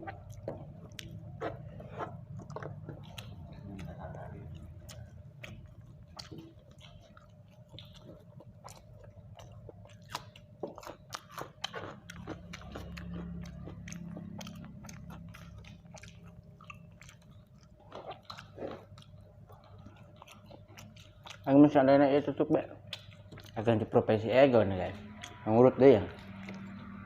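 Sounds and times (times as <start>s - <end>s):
person chewing crunchy food: 0.0s - 21.7s, 22.3s - 24.0s, 24.8s - 27.0s.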